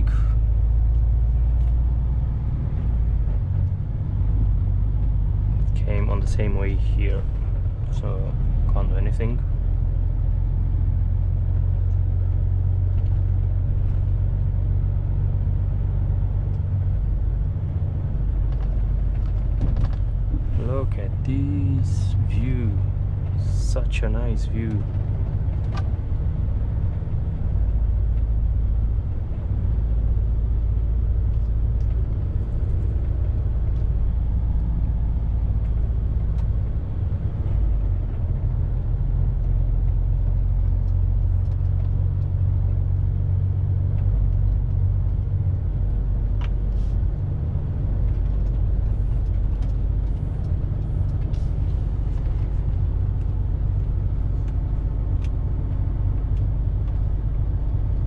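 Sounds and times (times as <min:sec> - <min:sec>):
lorry engine and road rumble: 0:00.0 - 0:58.0.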